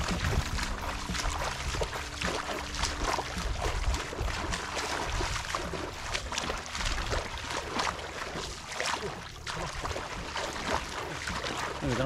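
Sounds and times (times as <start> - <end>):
feet splashing through muddy water: 0.0 - 12.0.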